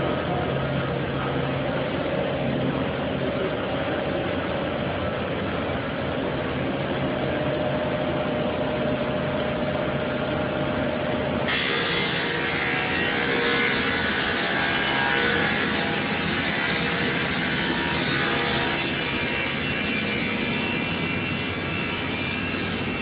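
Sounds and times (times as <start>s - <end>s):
production line machinery din: 0.0s - 23.0s.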